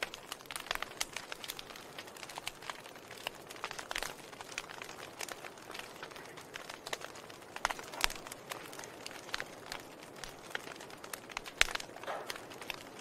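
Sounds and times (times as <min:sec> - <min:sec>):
soft hiss of flames: 0:00.0 - 0:13.0
wood fire crackling: 0:00.0 - 0:13.0.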